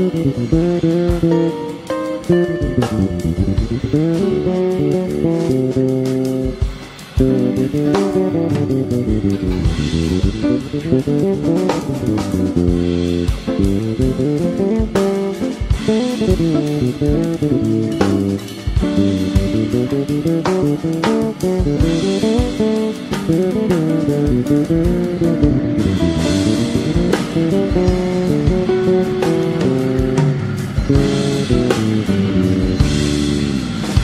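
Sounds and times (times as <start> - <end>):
band playing with guitar and drums: 0.0 - 34.0.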